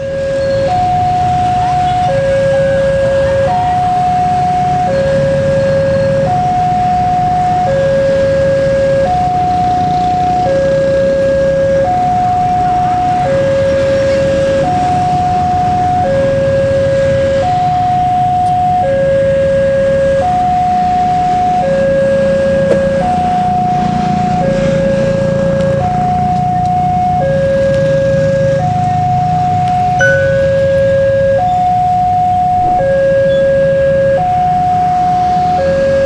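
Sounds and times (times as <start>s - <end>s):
two-tone level crossing alarm: 0.0s - 36.0s.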